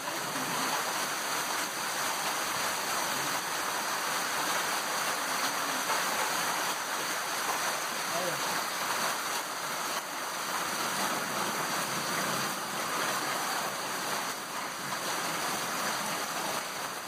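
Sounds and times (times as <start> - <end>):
heavy rain and hail falling: 0.0 - 17.0.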